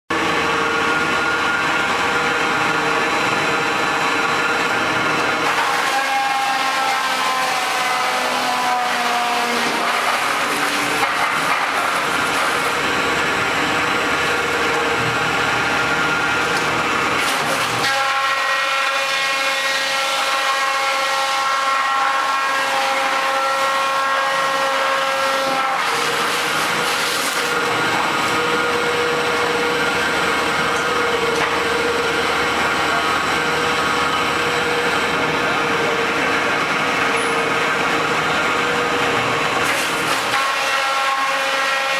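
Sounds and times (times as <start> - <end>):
wood crusher grinding with whine: 0.1 - 41.9.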